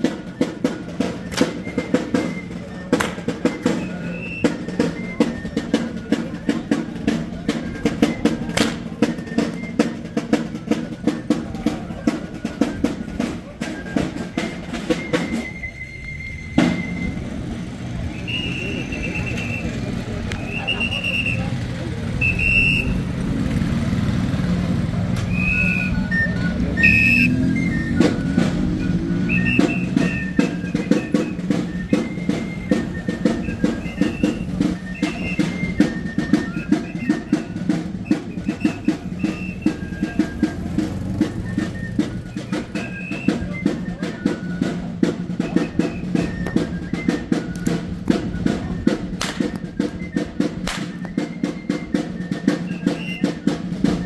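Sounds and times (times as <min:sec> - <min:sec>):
high flute melody: 0:00.0 - 0:23.7, 0:25.0 - 0:54.0
steady drumbeat: 0:00.0 - 0:54.0.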